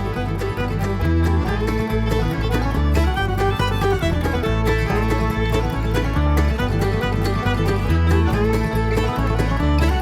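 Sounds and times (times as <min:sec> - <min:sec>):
banjo and guitar bluegrass tune: 0:00.0 - 0:10.0
steady bass: 0:00.0 - 0:10.0.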